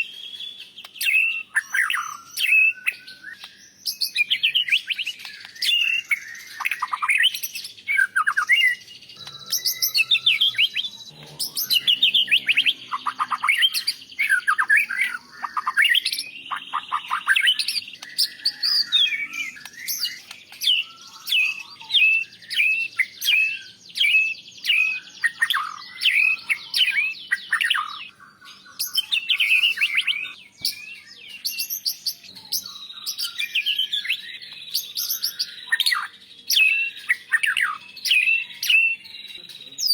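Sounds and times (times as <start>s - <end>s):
songbird singing whistles: 0.0s - 39.9s.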